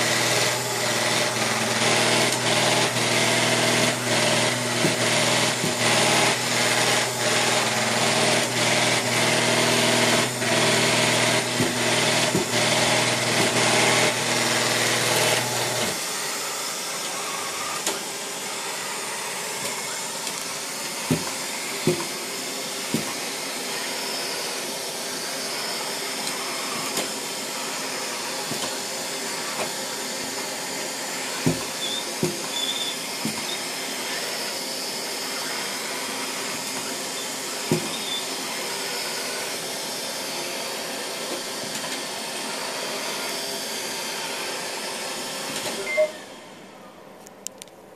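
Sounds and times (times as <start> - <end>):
robot vacuum motor hum: 0.0 - 46.7.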